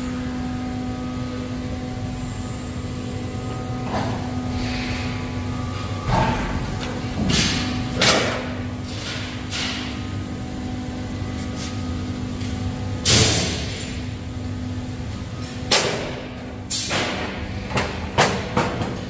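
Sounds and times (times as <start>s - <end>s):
hydraulic power unit hum: 0.0s - 19.0s.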